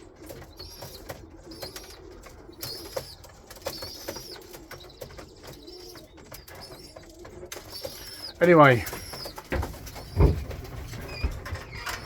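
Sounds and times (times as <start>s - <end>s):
pigeons cooing: 0.0s - 12.0s
young pigeons squeaking: 0.0s - 12.0s.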